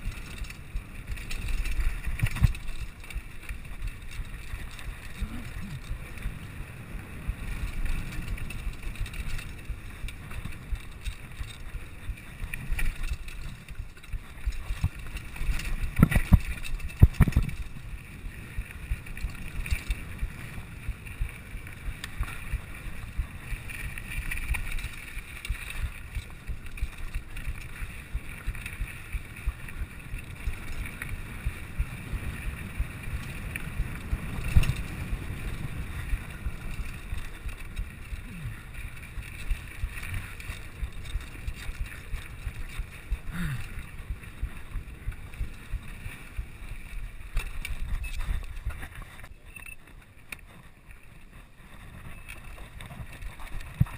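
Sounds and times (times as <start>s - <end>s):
bike rattling: 0.0s - 53.9s
tyres rumbling over dirt: 0.0s - 53.9s
wind on microphone: 0.0s - 53.9s.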